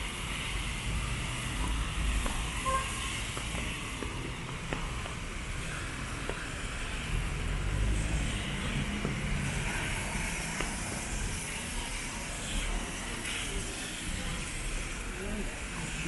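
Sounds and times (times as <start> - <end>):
rain hissing on wet street: 0.0 - 16.0.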